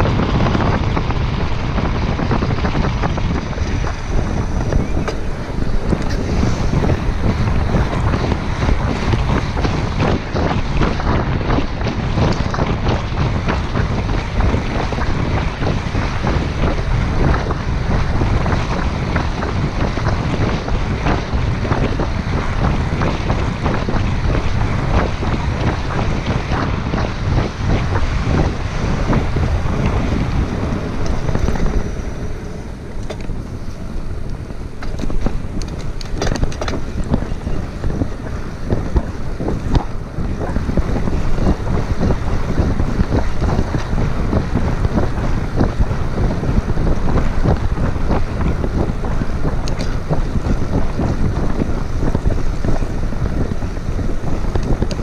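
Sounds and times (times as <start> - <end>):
tyres on wet pavement: 0.0 - 55.0
wind buffeting microphone: 0.0 - 55.0.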